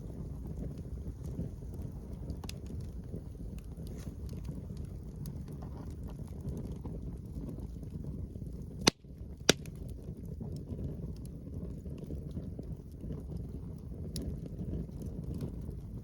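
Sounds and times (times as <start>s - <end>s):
campfire crackling: 0.0s - 16.0s
low rumble of wind: 0.0s - 16.0s.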